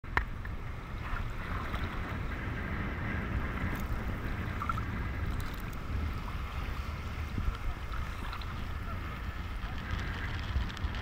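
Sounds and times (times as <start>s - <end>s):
low rumble of water buffeting: 0.0s - 11.0s
small waves lapping: 0.5s - 11.0s.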